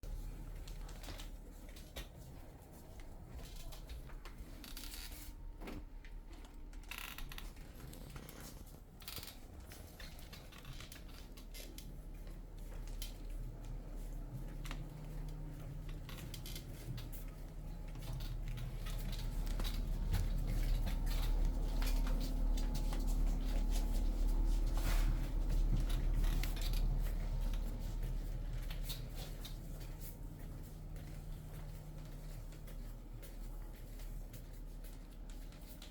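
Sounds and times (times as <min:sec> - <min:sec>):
stroller wheels rumbling and rattling: 0:00.0 - 0:35.9
low steady hum: 0:00.1 - 0:35.9.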